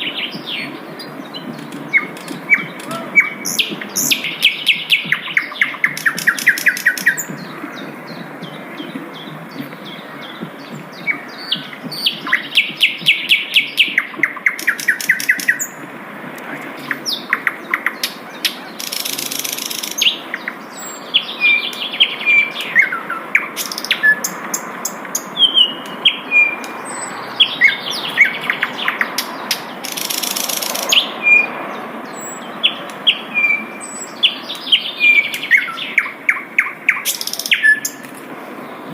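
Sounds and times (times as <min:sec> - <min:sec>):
flycatcher singing trills and whistles: 0:00.0 - 0:15.8, 0:16.8 - 0:38.1.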